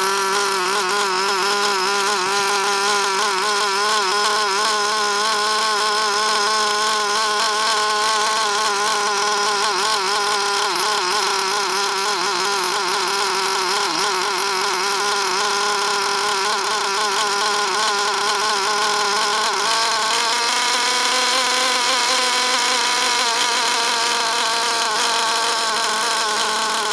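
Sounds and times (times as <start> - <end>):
small nitro engine whining: 0.0 - 26.9.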